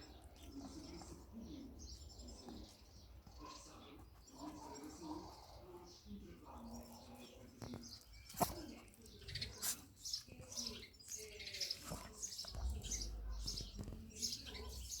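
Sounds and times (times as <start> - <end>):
dog chewing grass: 0.0 - 5.6, 6.5 - 15.0.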